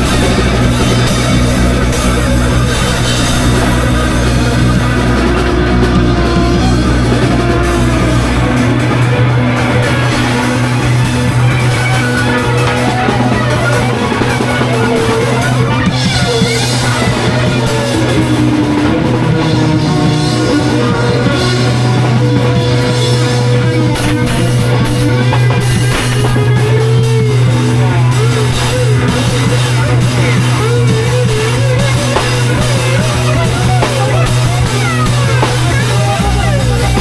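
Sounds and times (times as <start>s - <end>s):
bending guitar lines: 0.0s - 37.0s
drum kit playing: 0.0s - 37.0s
sustained low note: 0.0s - 37.0s.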